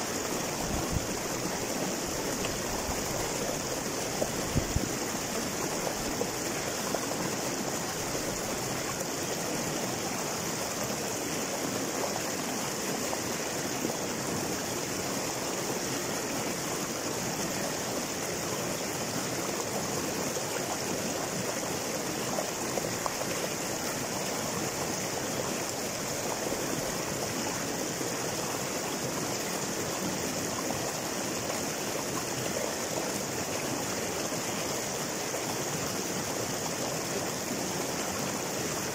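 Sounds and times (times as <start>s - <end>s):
river rushing over boulders: 0.0s - 38.9s.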